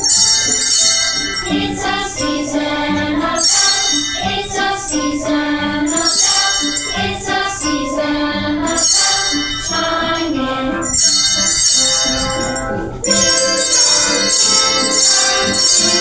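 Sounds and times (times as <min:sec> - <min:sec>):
children's choir singing: 0:00.0 - 0:16.0
jingle bells shaken: 0:00.0 - 0:16.0.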